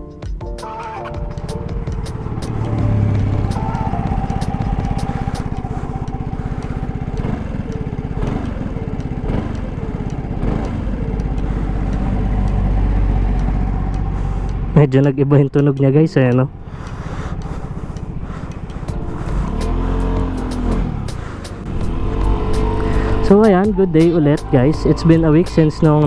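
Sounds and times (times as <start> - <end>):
scooter engine revving: 0.6 - 26.0.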